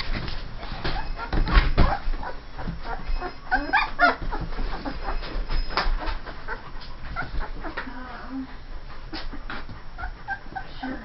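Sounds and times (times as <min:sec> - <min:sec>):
puppies whimpering: 0:00.7 - 0:08.2, 0:09.1 - 0:11.0.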